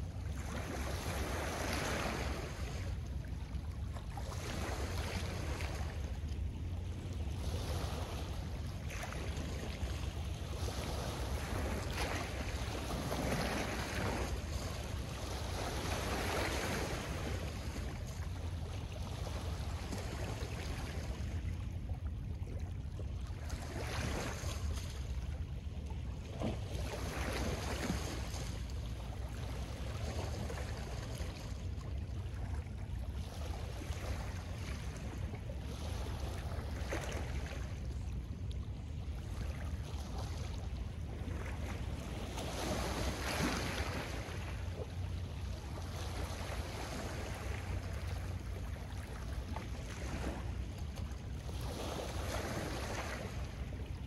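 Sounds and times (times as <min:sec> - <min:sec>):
wind rumble on microphone: 0:00.0 - 0:54.0.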